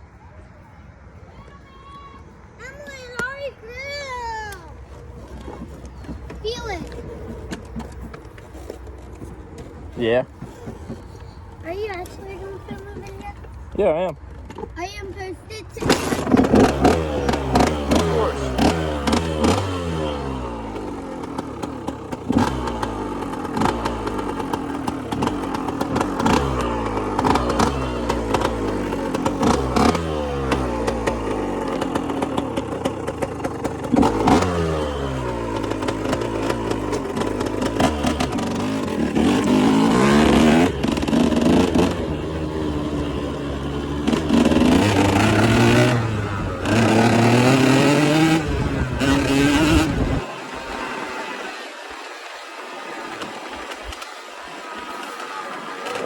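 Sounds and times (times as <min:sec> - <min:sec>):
motorcycle engine accelerating: 0:03.2 - 0:56.0.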